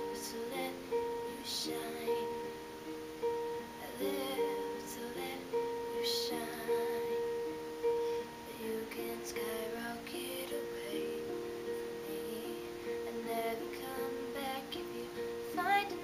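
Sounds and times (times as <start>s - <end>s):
woman singing slow song: 0.0s - 3.0s, 3.6s - 16.0s.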